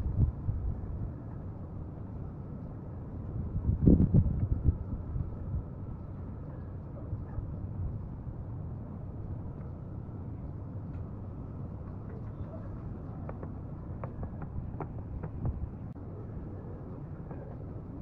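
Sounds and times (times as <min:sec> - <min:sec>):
faint hum: 0:00.0 - 0:18.0
low background rumble: 0:00.0 - 0:18.0.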